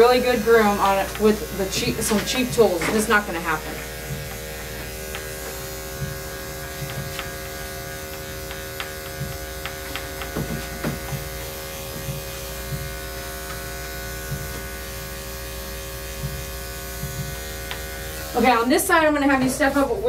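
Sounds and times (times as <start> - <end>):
electric clippers buzzing: 0.0 - 20.0.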